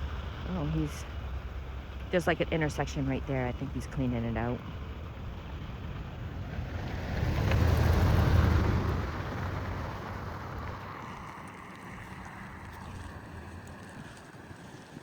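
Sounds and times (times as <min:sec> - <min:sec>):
vehicle passing on snowy road: 0:00.0 - 0:15.0.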